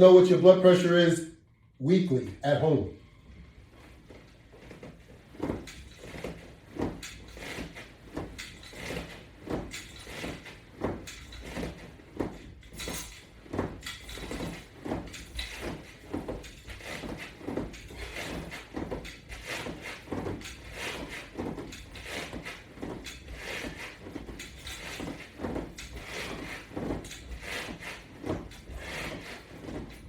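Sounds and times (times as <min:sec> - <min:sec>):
exercise repetition sounds: 0:00.0 - 0:30.0.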